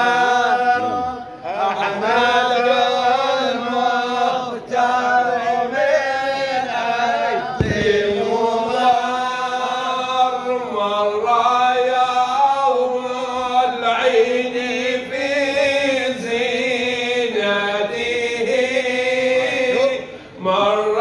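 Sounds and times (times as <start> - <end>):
men singing unaccompanied chant: 0.0 - 21.0.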